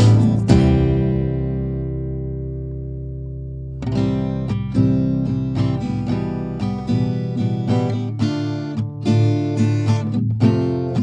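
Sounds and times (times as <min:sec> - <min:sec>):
acoustic guitar melody: 0:00.0 - 0:11.0.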